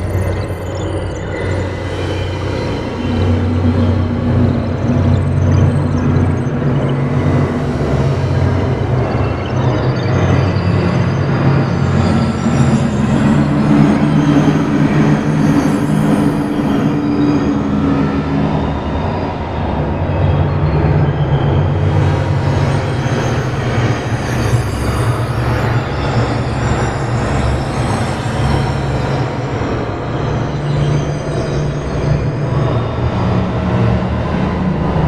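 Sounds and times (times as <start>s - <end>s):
low sustained drones: 0.0s - 35.0s.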